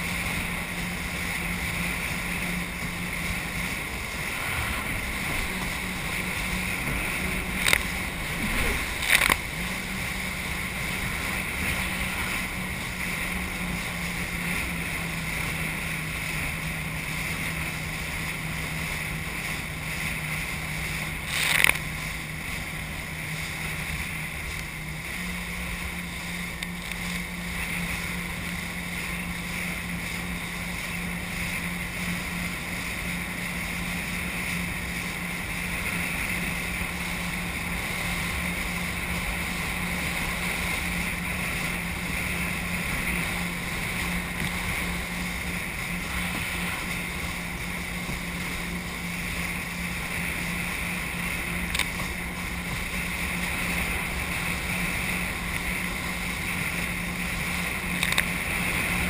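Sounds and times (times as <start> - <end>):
jet ski engine running: 0.0 - 59.0
rushing water: 0.0 - 59.0
wind on microphone: 0.0 - 59.0.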